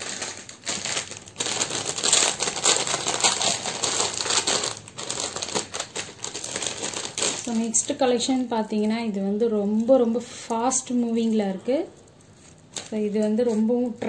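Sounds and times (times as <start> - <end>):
crinkling: 0.0 - 14.0.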